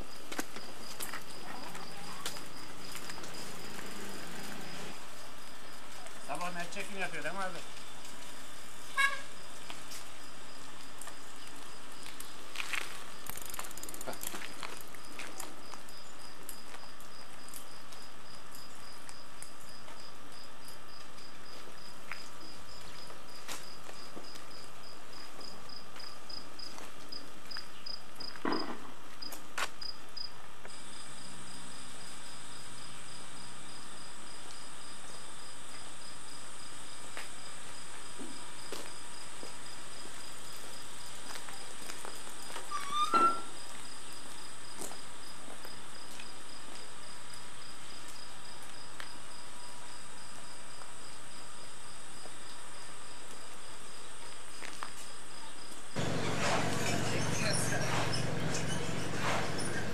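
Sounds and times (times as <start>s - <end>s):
continuous high insect trill: 0.0s - 59.9s
crickets chirping: 0.0s - 59.9s.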